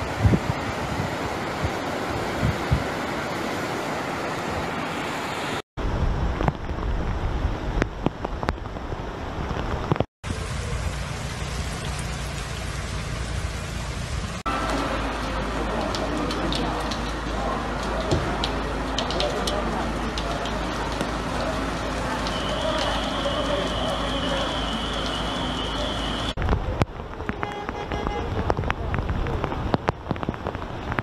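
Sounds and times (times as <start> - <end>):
rushing floodwater: 0.0 - 5.6, 6.7 - 31.0
wind: 0.0 - 31.0.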